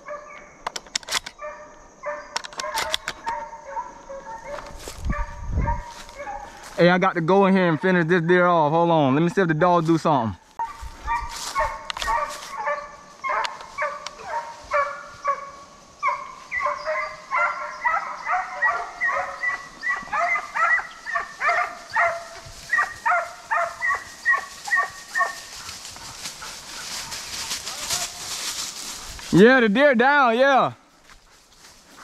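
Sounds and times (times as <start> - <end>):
hounds baying: 1.3 - 8.6, 10.4 - 29.5.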